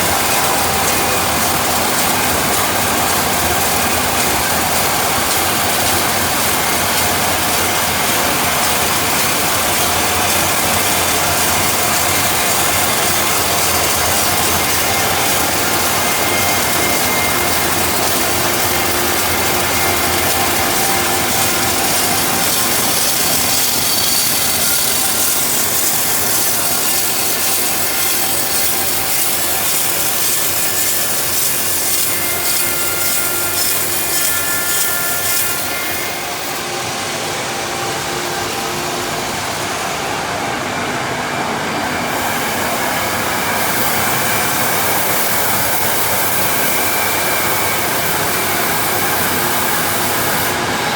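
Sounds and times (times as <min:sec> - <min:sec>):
saw cutting through log: 0:00.0 - 0:39.5, 0:42.1 - 0:50.9.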